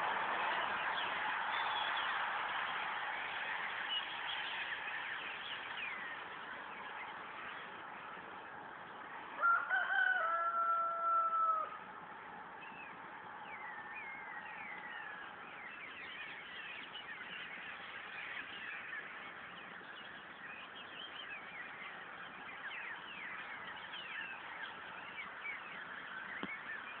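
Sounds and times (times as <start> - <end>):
flock of birds twittering: 0.0 - 27.0.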